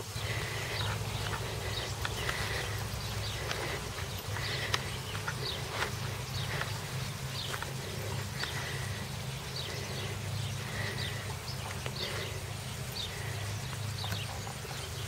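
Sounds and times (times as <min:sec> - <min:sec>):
horse chewing grass: 0:00.0 - 0:15.0
steady low hum: 0:00.0 - 0:15.0.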